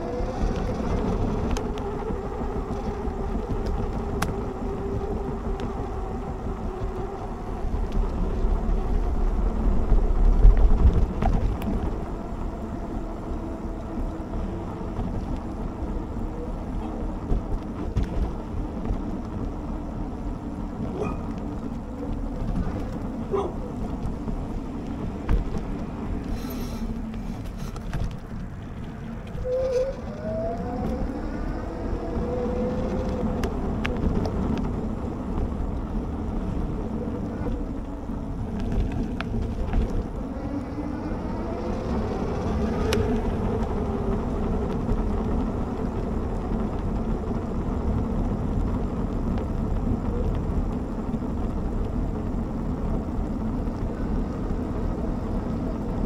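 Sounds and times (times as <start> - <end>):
electric hub motor whine: 0.0 - 56.0
rumble of tyres and wind: 0.0 - 56.0.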